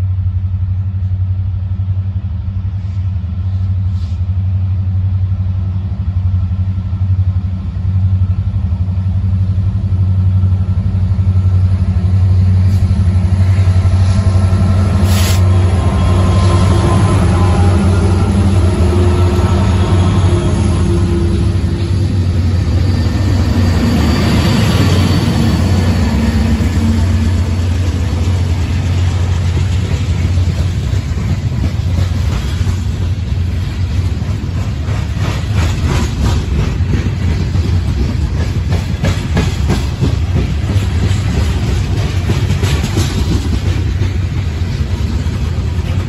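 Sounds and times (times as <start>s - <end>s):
diesel locomotives droning: 0.0s - 46.0s
freight cars rumbling: 0.0s - 46.0s
train wheels clicking on rail: 8.9s - 46.0s.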